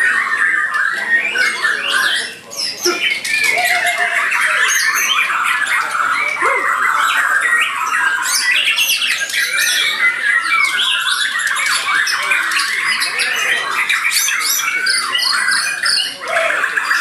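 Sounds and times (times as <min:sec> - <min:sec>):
songbirds whistling and chattering: 0:00.0 - 0:17.0.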